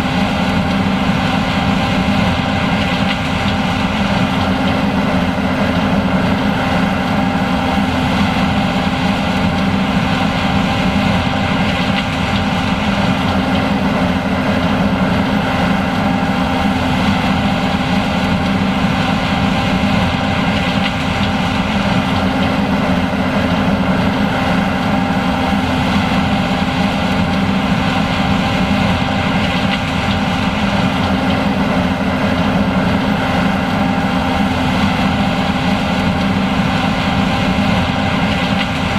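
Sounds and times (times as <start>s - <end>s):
combine engine drone: 0.0s - 38.9s
machinery whining: 0.0s - 38.9s.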